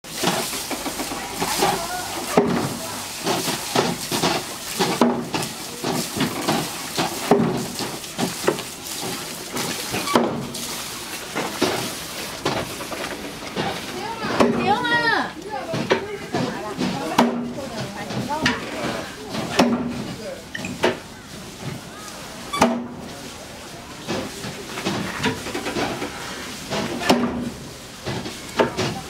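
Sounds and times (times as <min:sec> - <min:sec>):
water splashing over water wheel: 0:00.0 - 0:29.0
water wheel knocks: 0:00.1 - 0:23.2, 0:23.9 - 0:29.0.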